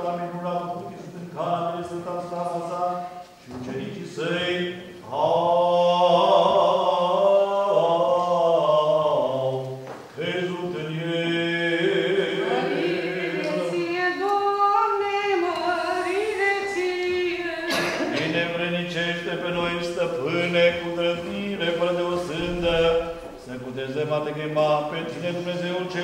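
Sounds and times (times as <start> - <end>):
a cappella choral chant: 0.0 - 26.0.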